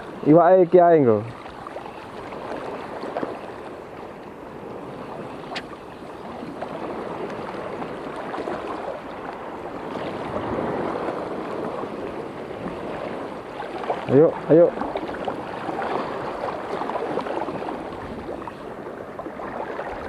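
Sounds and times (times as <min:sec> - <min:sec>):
water lapping and sloshing: 0:00.0 - 0:20.0.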